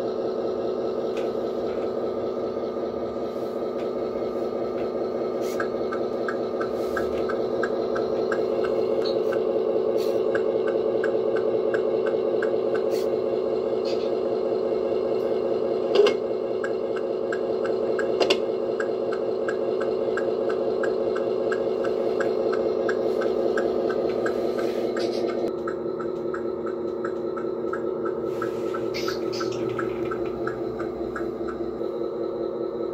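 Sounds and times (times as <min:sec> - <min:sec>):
diesel engine idle through speaker: 0:00.0 - 0:32.9.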